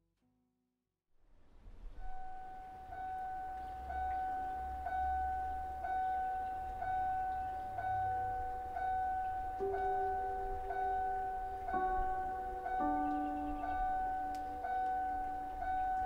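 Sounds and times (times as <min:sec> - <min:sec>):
car door warning chime: 0:02.0 - 0:16.0.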